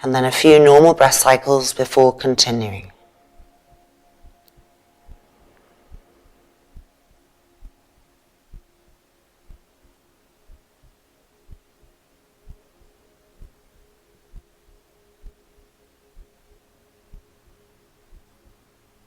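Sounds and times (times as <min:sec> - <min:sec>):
low steady drone: 0:00.0 - 0:19.0.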